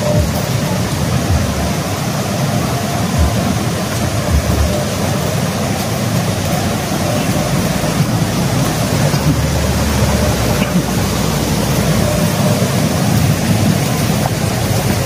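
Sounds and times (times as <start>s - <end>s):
falling water rushing: 0.0s - 15.0s.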